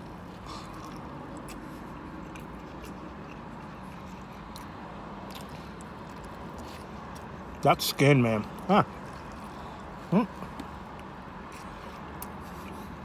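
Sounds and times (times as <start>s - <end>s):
man chewing food: 0.0s - 7.6s, 8.4s - 13.0s.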